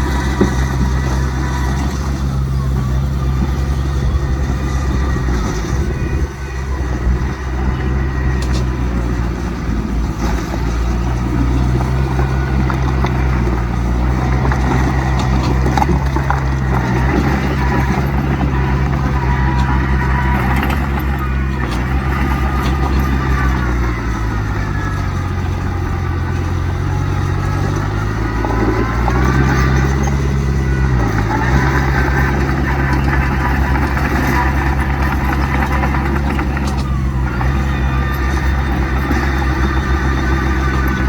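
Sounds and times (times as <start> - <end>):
heavy diesel engines running: 0.0 - 41.0.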